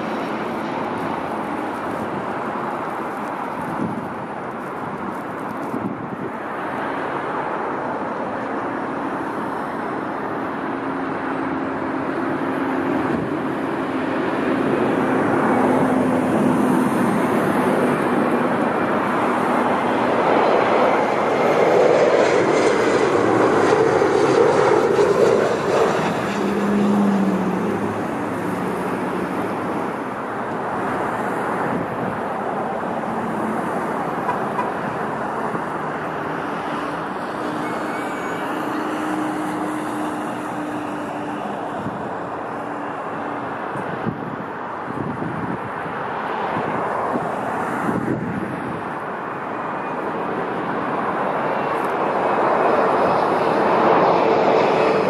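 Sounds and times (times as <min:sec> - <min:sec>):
jet airliner passing: 0:00.0 - 0:55.0.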